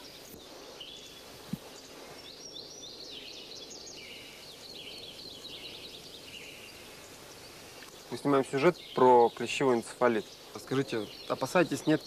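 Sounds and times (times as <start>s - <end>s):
birds chirping and twittering: 0.0s - 12.0s
steady outdoor hiss: 0.0s - 12.0s.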